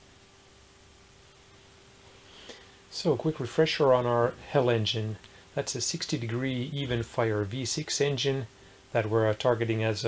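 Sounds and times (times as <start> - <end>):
faint steady tone: 0.0 - 10.0.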